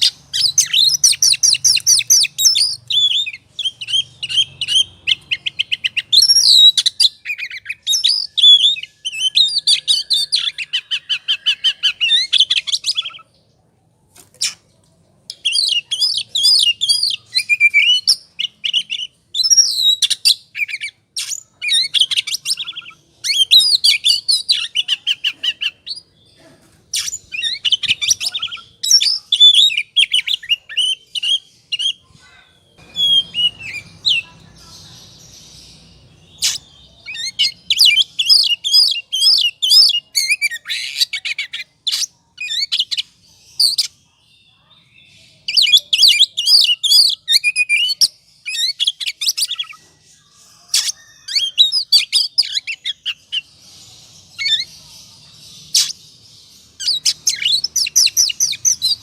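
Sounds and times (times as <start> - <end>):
magpie-robin singing: 0.0 - 13.4, 14.3 - 59.0.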